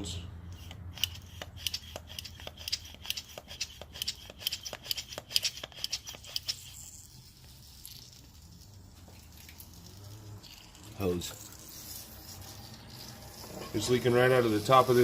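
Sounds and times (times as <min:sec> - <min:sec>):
hand pump strokes: 0:00.5 - 0:08.3, 0:09.1 - 0:15.0.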